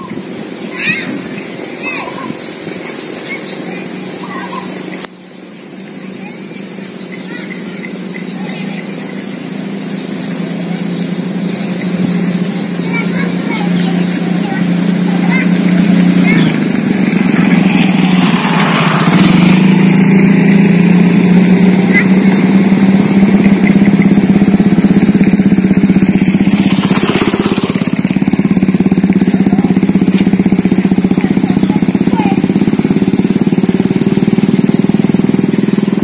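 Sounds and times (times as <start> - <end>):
kite bow humming drone: 0.0 - 36.0.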